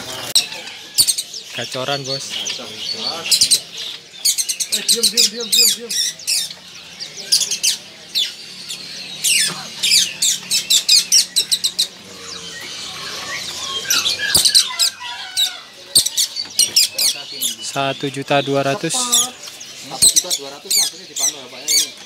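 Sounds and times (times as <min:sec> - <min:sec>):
small songbirds chirping: 0:00.0 - 0:22.0.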